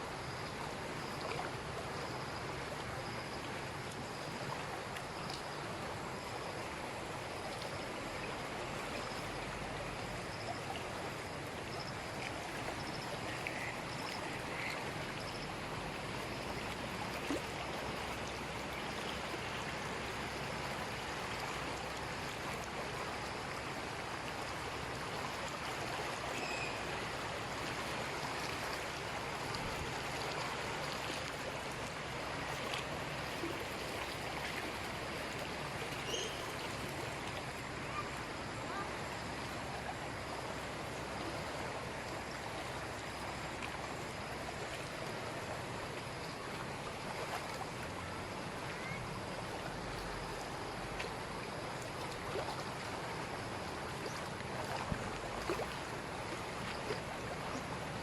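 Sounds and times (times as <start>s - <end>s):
floodwater rushing: 0.0s - 58.0s.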